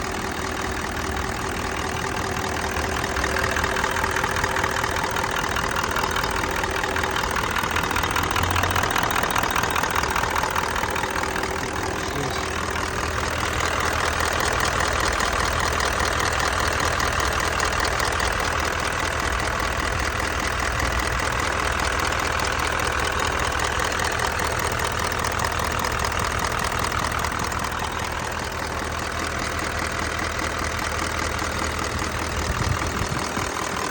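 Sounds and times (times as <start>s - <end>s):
engine idling: 0.0s - 33.9s
fast regular engine ticking: 0.0s - 33.9s.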